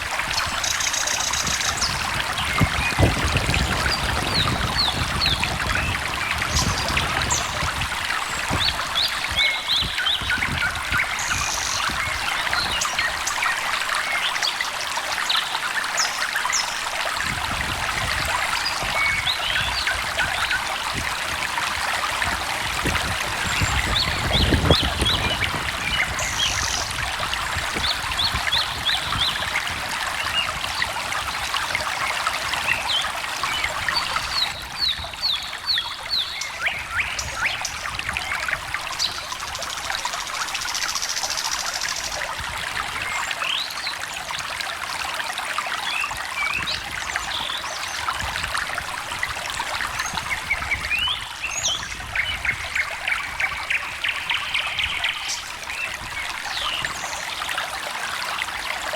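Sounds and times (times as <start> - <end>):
stream trickling and babbling: 0.0 - 58.9.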